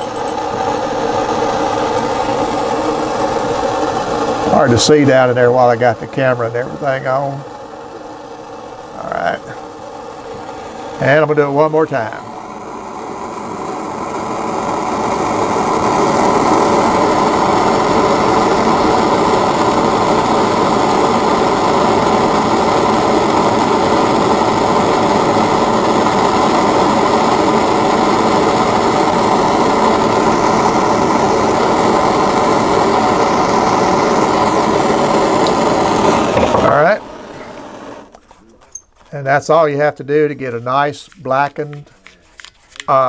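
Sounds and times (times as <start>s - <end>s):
propane torch rushing flame: 0.0s - 43.0s.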